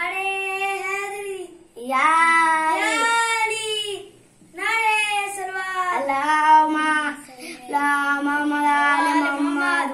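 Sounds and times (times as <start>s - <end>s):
boy singing: 0.0s - 4.0s, 4.6s - 9.9s.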